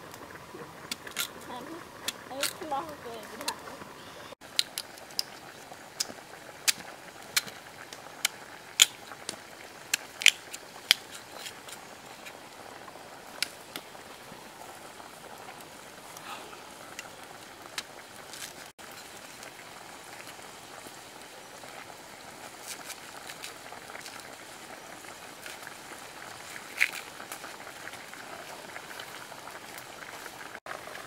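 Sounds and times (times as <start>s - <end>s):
soup bubbling: 0.0s - 31.0s
fire pops and clicks: 0.1s - 3.6s, 4.4s - 19.5s, 21.6s - 31.0s.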